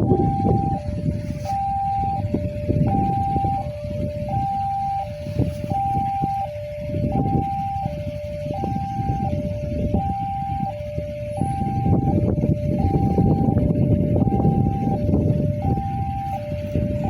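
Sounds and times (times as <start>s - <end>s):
level crossing alarm hi-lo siren: 0.0s - 17.0s
low rumble: 0.0s - 17.0s.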